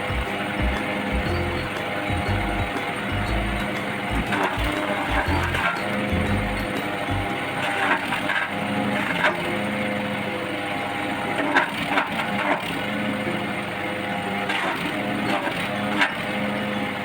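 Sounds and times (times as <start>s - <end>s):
wood chipper engine running: 0.0s - 17.0s.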